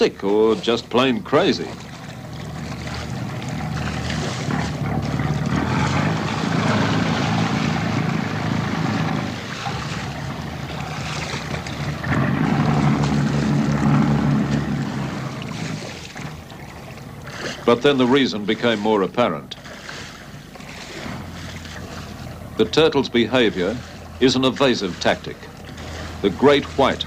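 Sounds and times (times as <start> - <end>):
motorboat engine droning: 0.0 - 27.0
water rushing and splashing: 0.0 - 27.0.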